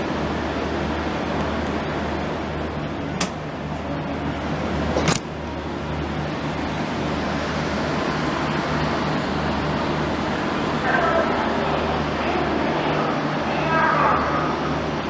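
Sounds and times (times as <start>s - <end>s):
train coaches humming: 0.0s - 15.0s.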